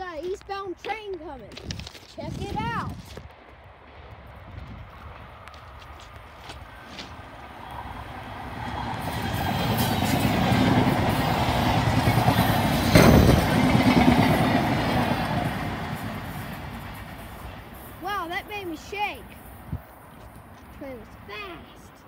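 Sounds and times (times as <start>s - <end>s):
fast train passing: 2.6s - 22.0s.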